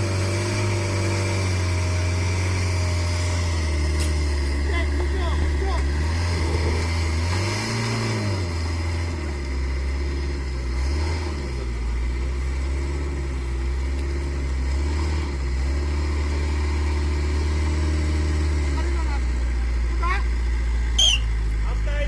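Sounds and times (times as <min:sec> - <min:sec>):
engine idling and revving: 0:00.0 - 0:22.0.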